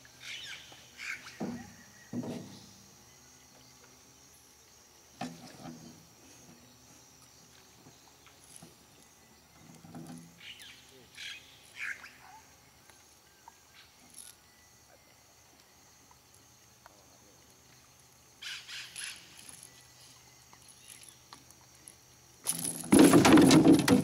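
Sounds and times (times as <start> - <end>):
jungle insects droning: 0.0 - 24.0.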